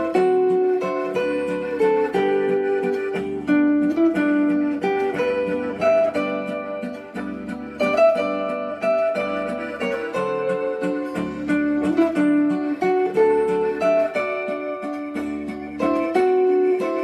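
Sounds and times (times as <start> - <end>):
zither melody: 0.0 - 17.0.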